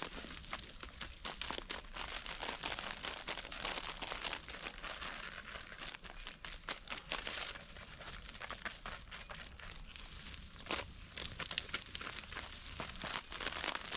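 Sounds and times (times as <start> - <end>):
crunching and rustling: 0.0 - 13.9.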